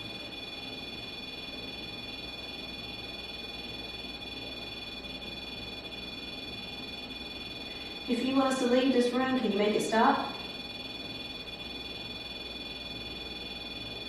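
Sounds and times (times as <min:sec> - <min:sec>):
high electronic alarm tone: 0:00.0 - 0:14.0.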